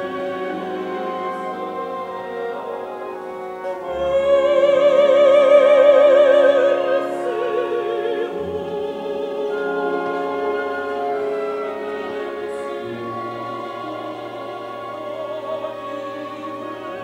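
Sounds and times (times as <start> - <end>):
symphony orchestra: 0.0 - 17.0
woman singing opera: 0.0 - 17.0.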